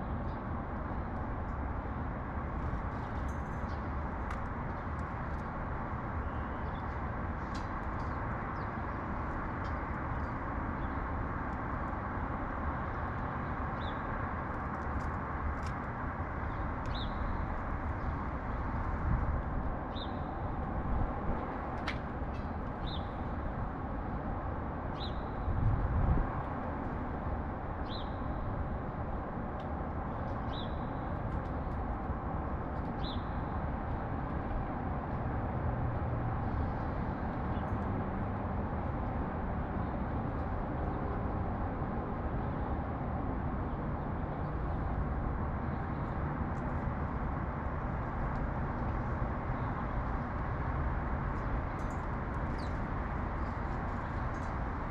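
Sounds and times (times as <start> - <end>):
city traffic hum: 0.0 - 54.9.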